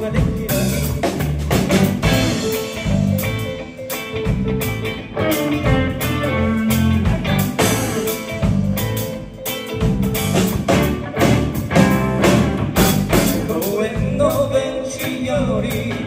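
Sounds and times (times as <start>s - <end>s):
drum kit beat: 0.0s - 16.0s
electric bass: 0.0s - 16.0s
electric guitars: 0.0s - 16.0s.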